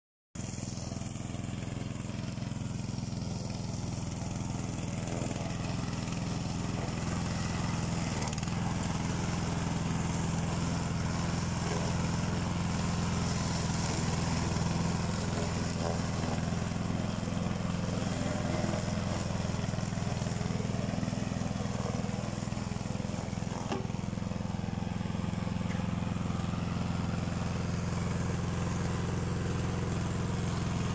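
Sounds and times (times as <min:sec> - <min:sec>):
small petrol engine mowing: 0:00.4 - 0:30.9.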